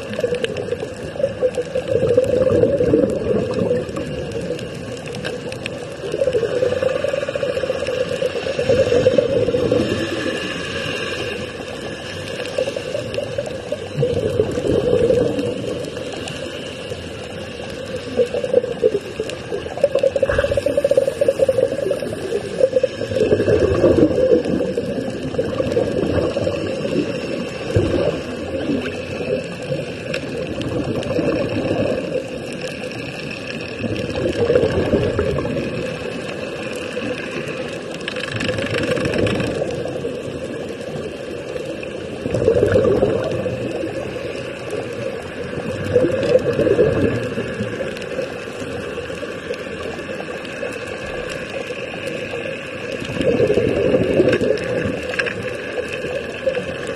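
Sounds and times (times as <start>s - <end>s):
underwater bubbling and rushing air: 0.0s - 56.9s.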